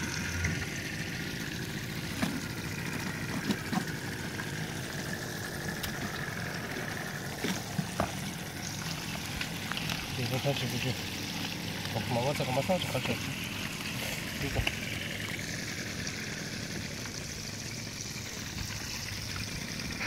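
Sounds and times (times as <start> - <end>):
fish frying in oil: 0.0 - 20.0.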